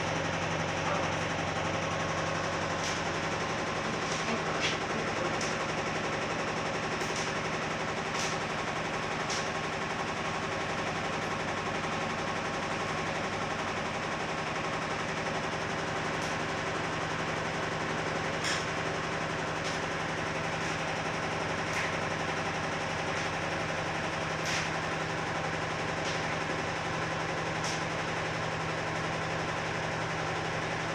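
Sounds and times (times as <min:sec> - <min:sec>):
washing machine spin rattling: 0:00.0 - 0:30.9.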